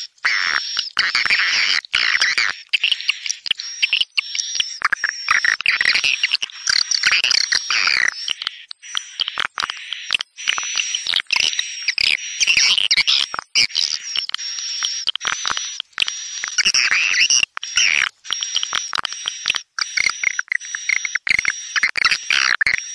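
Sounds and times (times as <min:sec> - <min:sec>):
birds chirping and twittering: 0:00.0 - 0:22.9.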